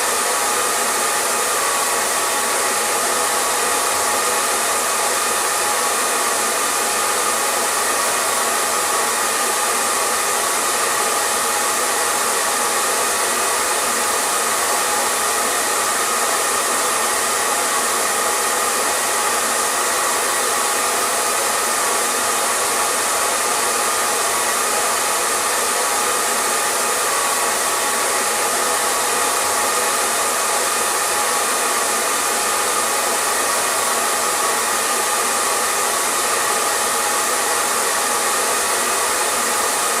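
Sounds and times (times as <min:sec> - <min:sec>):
hair dryer running: 0:00.0 - 0:40.0.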